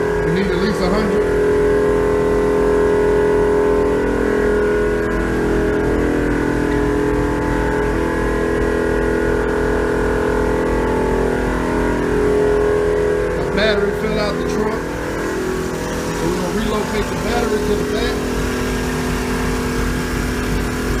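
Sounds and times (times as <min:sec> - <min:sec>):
air compressor humming: 0:00.0 - 0:21.0.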